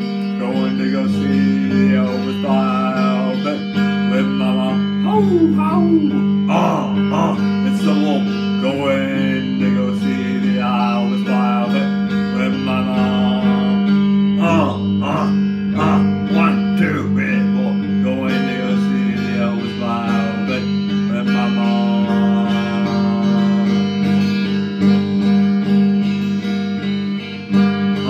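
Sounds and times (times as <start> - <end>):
man singing into a microphone: 0.0 - 24.3
electric guitar strumming: 0.0 - 28.0.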